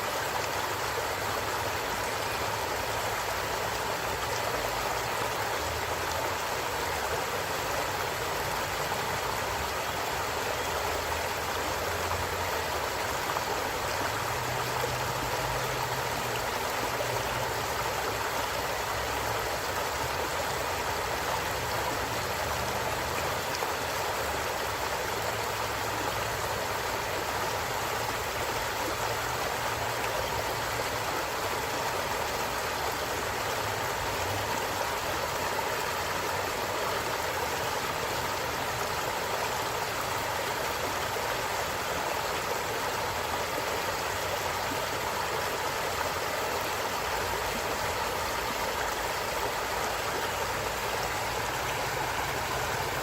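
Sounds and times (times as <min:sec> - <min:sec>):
stream running over rocks: 0:00.0 - 0:53.0.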